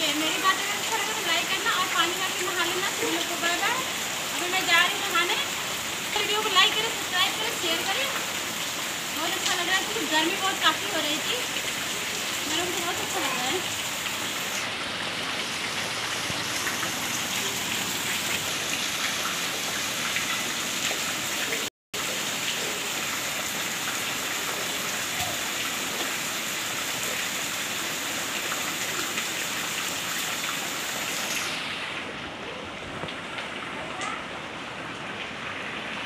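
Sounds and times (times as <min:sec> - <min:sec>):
heavy rain hissing: 0:00.0 - 0:28.4, 0:29.3 - 0:34.8.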